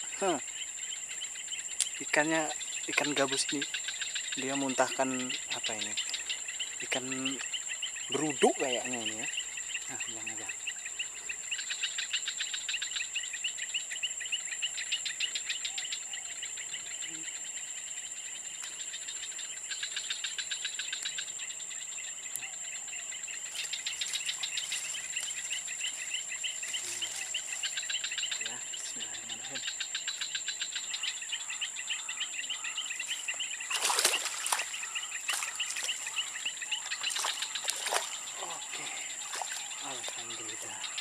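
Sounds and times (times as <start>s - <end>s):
insects chirping trills: 0.0s - 41.0s.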